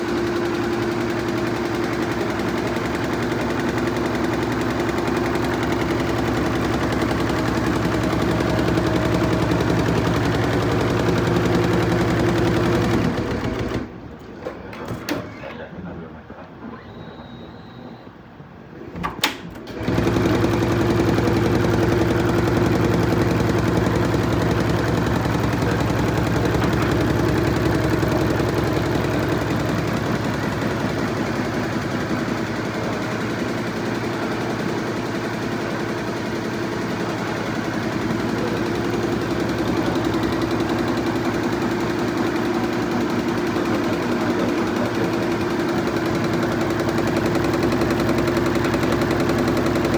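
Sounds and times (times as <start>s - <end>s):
embroidery machine stitching: 0.0s - 14.0s, 19.2s - 49.9s.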